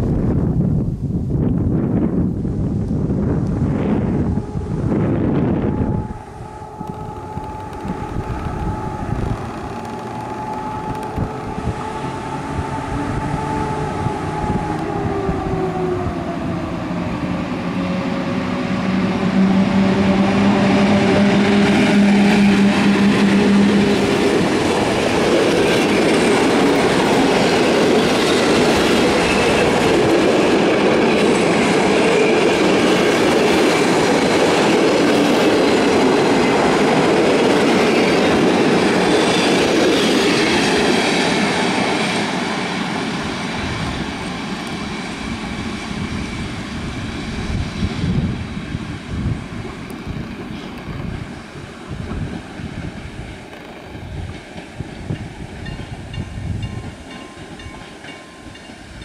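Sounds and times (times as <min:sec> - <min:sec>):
electric locomotive whine: 0:00.0 - 0:59.0
train coaches rumbling and clacking: 0:01.5 - 0:59.0.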